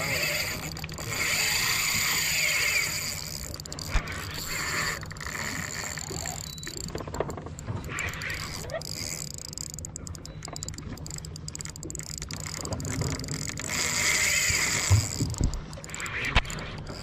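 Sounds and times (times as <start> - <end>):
fishing reel ratcheting: 0.0 - 17.0.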